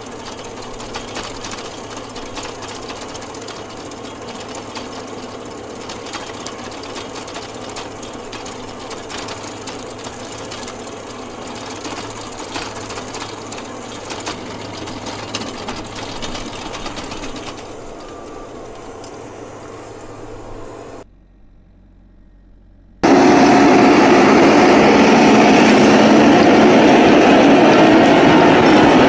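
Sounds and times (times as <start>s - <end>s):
stump grinder engine hum: 0.0s - 22.4s, 23.0s - 29.0s.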